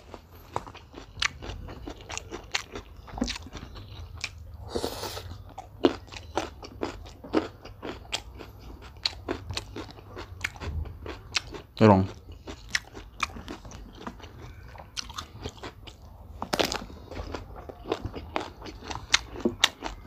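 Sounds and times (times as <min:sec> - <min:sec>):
mouth chewing and crunching: 0:00.0 - 0:20.0.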